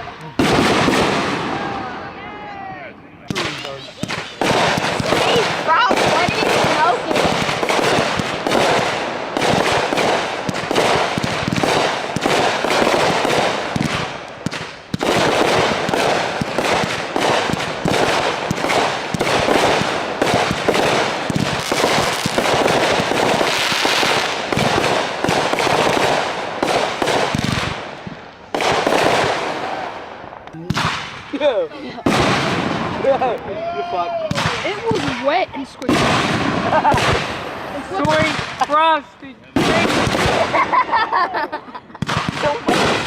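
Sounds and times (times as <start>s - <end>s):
fireworks bangs and cracks: 0.0s - 43.0s.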